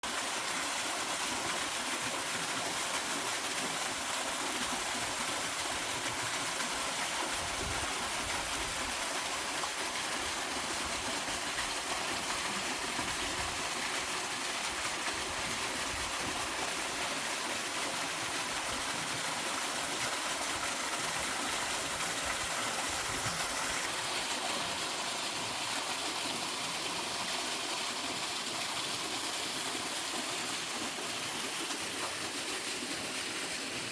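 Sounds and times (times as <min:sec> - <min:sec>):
waterfall rushing into stream: 0:00.0 - 0:33.9.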